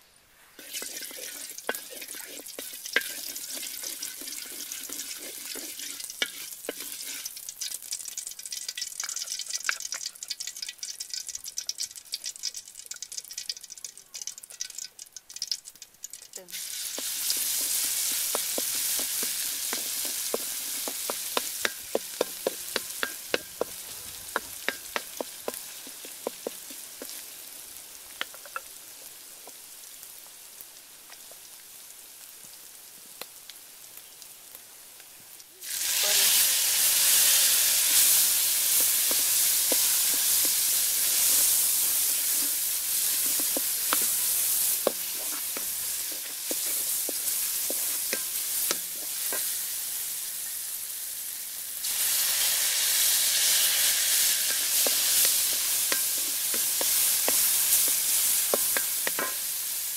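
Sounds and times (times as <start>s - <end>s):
egg sizzling in hot oil: 0.5s - 59.9s
oil popping: 0.6s - 29.6s, 36.6s - 49.6s, 51.8s - 59.7s.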